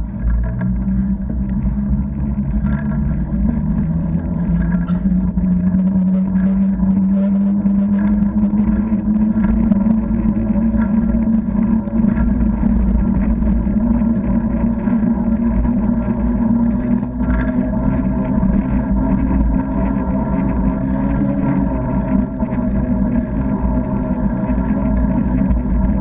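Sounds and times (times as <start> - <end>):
bicycle tyres rumbling on tarmac: 0.0 - 26.0.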